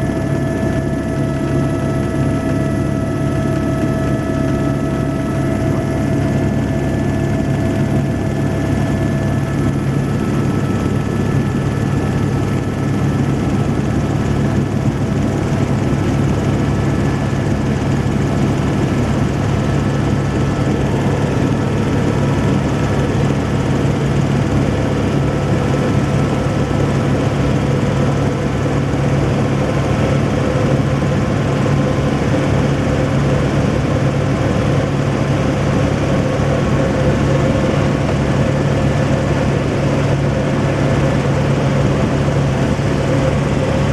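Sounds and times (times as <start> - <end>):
helicopter rotor and engine noise: 0.0 - 43.9.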